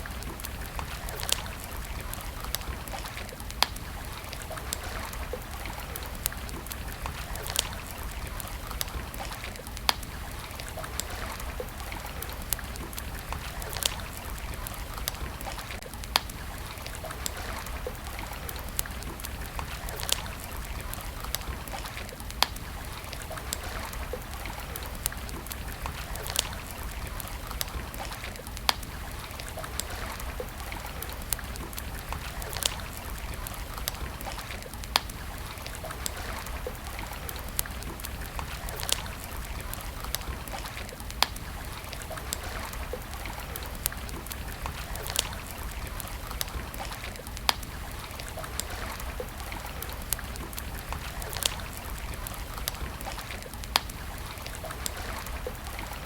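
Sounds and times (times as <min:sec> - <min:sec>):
campfire crackling: 0:00.0 - 0:56.0
flowing river water: 0:00.0 - 0:56.0.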